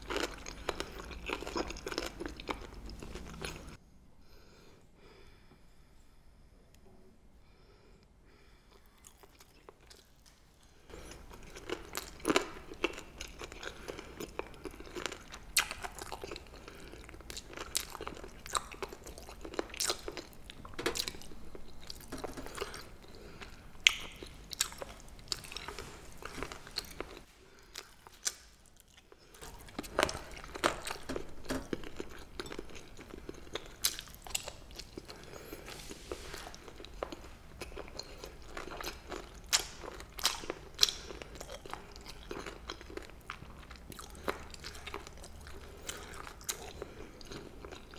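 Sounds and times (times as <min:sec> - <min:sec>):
person chewing crunchy food: 0:00.0 - 0:03.8, 0:08.7 - 0:47.9.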